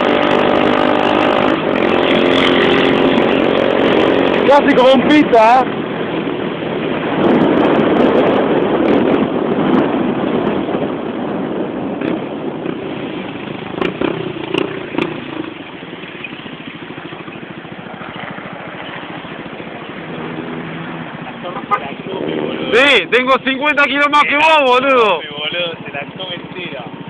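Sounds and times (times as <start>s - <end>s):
motorcycle engine: 0.0s - 27.0s
wind noise: 0.0s - 27.0s.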